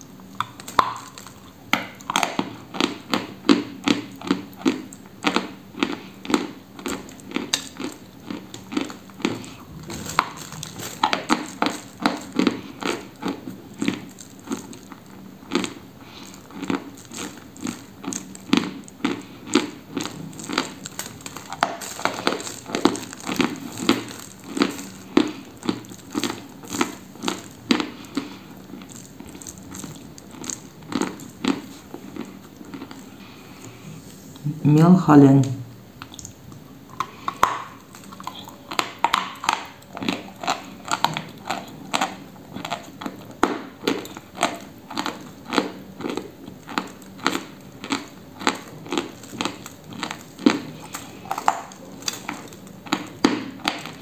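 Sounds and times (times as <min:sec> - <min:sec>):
chalk being crunched and chewed: 0:00.4 - 0:33.8, 0:36.0 - 0:54.0.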